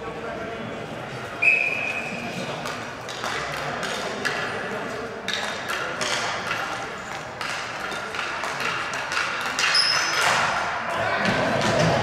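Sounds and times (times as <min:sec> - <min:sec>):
background din in rink: 0:01.1 - 0:12.0
hockey sticks tapping ball: 0:02.3 - 0:12.0.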